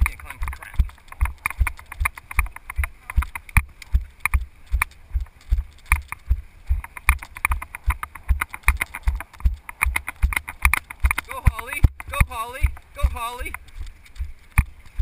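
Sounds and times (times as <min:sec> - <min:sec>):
running footsteps on grass: 0:00.0 - 0:15.0.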